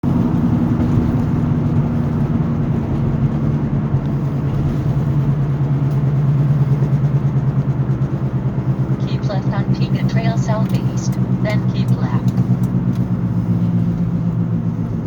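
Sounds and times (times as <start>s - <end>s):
low hum inside car cabin: 0.0s - 15.0s
road noise: 0.0s - 15.0s.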